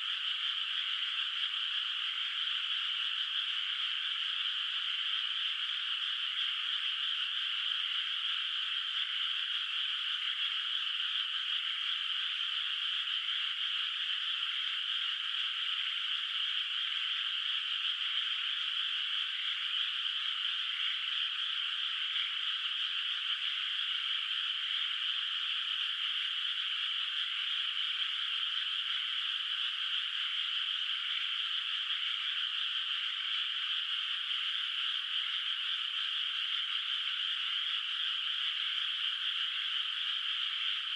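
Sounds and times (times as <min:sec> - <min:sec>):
frog chorus: 0:00.0 - 0:40.9.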